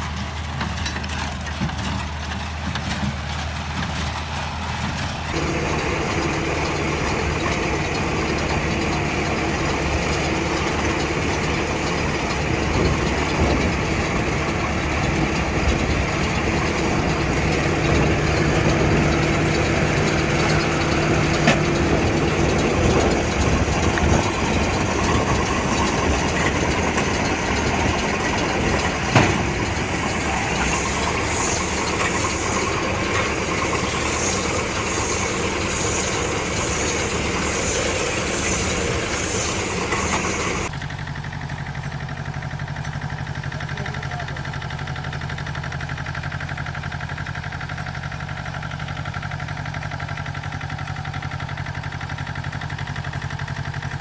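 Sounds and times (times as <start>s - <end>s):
hay baler machinery working: 0.0s - 54.0s
tractor engine running: 0.0s - 54.0s.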